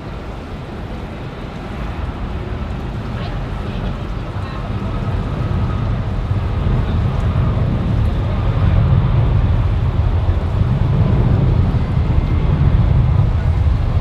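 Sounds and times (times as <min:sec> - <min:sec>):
jet engines rumbling with whine: 0:00.0 - 0:14.0.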